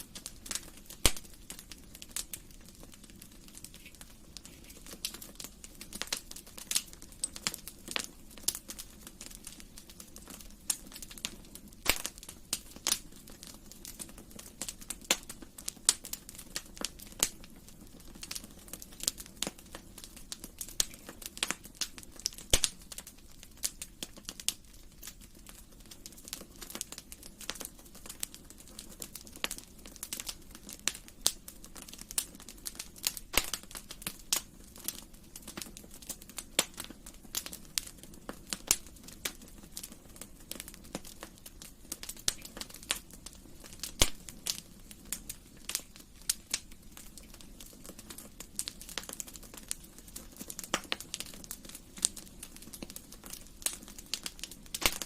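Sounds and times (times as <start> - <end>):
low steady hiss: 0.0 - 55.0
wood fire crackling: 0.0 - 55.0.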